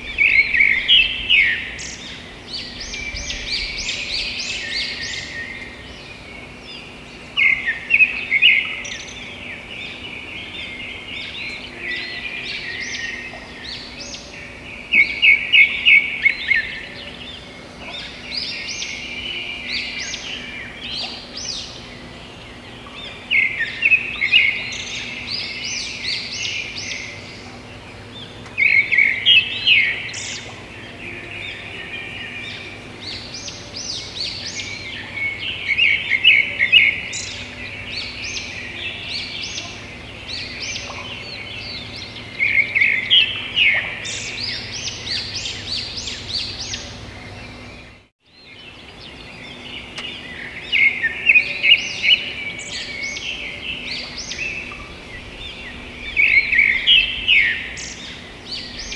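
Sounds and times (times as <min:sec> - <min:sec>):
birds chirping and twittering: 0:00.0 - 0:58.9.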